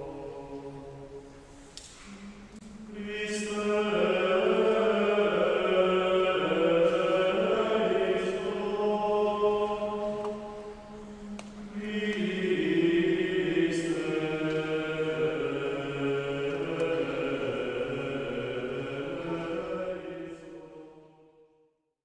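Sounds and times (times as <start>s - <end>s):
choral chant: 0.0s - 21.7s.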